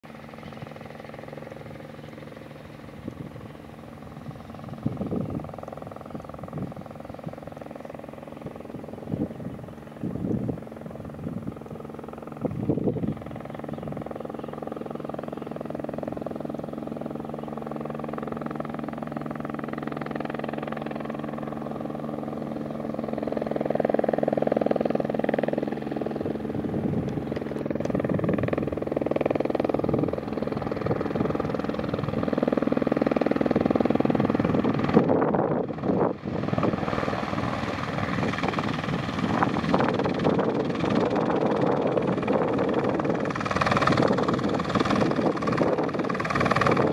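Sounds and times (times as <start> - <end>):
helicopter turbine and rotor: 0.0 - 46.9.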